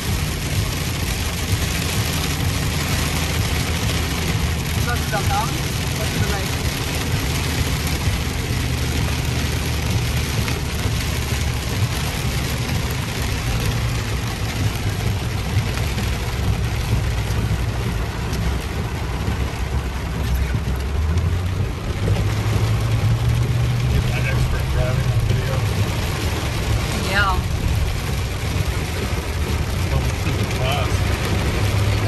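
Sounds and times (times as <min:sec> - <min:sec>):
engine and tyres droning: 0:00.0 - 0:32.0
heavy rain on car roof: 0:00.0 - 0:32.0.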